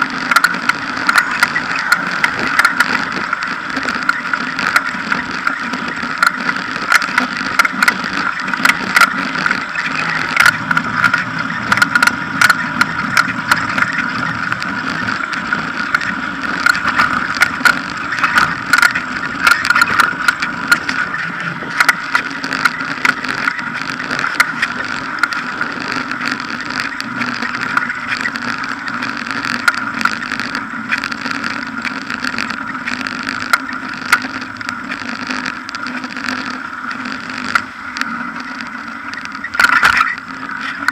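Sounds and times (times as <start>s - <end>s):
sharp clicks and knocks: 0.0s - 40.9s.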